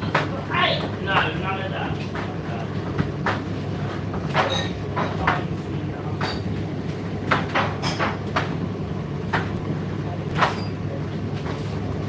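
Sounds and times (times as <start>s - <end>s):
tumble dryer motor hum: 0.0s - 12.0s.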